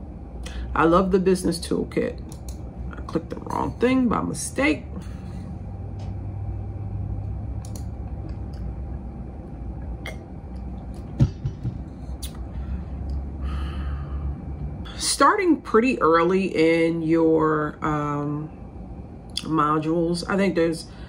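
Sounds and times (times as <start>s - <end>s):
low room rumble: 0.0s - 21.0s.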